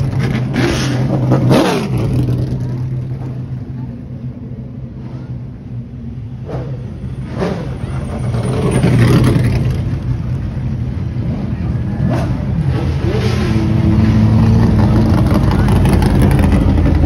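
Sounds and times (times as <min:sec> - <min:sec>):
race car engines revving: 0:00.0 - 0:17.0.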